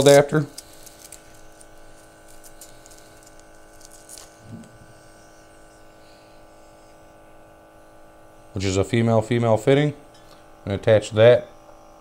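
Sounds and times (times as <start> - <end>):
small pump buzzing: 0.0 - 12.0.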